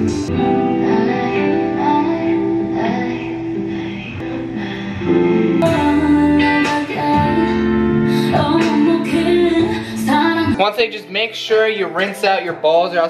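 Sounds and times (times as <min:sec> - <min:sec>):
pop music with plucked guitar: 0:00.0 - 0:13.0.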